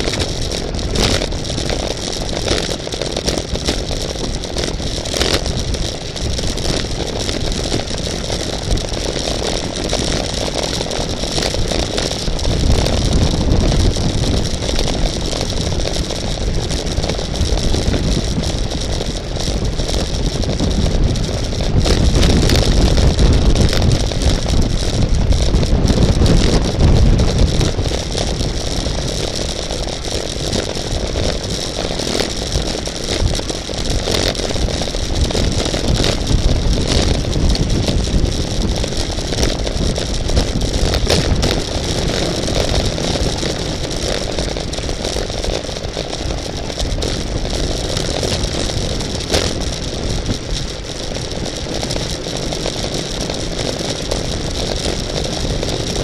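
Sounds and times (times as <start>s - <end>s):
bicycle tyres rattling on road: 0.0s - 56.0s
wind buffeting microphone: 0.0s - 56.0s.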